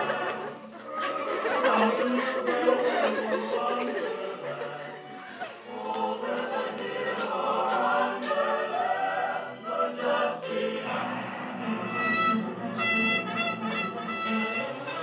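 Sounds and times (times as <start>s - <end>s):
choir singing sustained notes: 0.0s - 15.0s.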